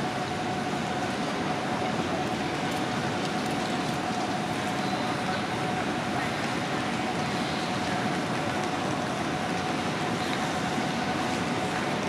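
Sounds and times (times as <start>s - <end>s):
station equipment hum and rumble: 0.0s - 12.0s.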